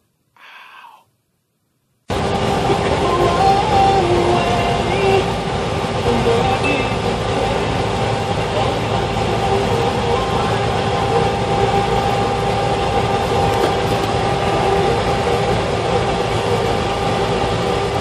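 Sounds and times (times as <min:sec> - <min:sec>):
bus engine and road noise: 0:02.1 - 0:18.0.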